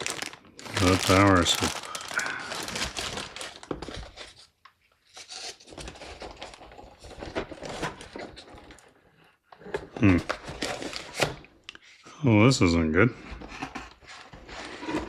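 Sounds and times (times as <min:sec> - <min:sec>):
packaging rustling and scraping: 0:00.0 - 0:11.4, 0:13.4 - 0:15.0.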